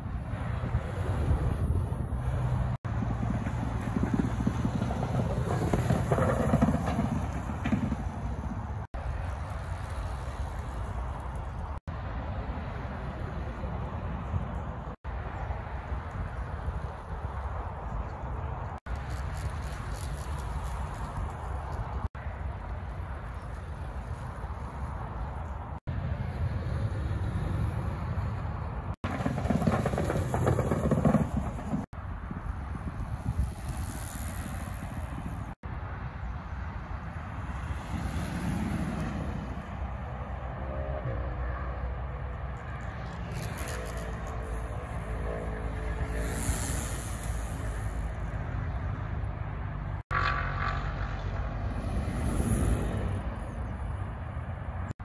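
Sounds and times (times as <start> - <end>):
wind: 0.0 - 55.0
tyres rumbling on tarmac: 0.4 - 35.7, 42.1 - 55.0
velomobile rolling past: 0.8 - 11.8, 18.9 - 35.6, 37.4 - 54.1.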